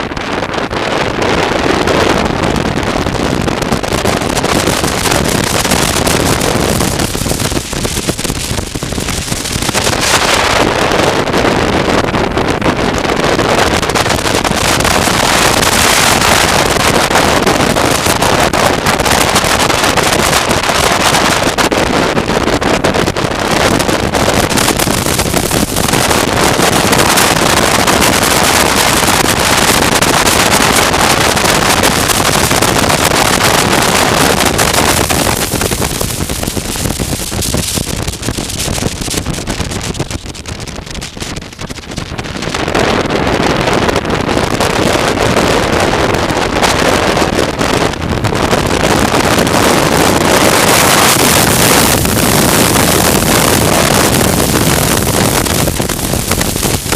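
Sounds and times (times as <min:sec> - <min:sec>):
wind rushing over microphone: 0:00.0 - 0:56.9
motorcycle running: 0:00.9 - 0:43.0, 0:43.8 - 0:56.9.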